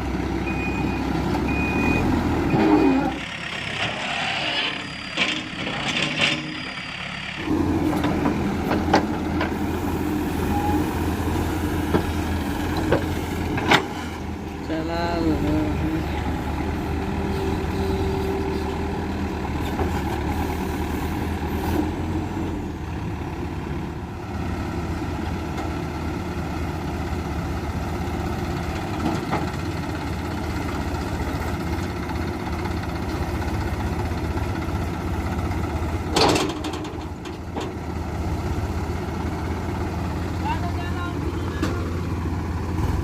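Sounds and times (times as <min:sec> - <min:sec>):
diesel engines running: 0:00.0 - 0:43.0.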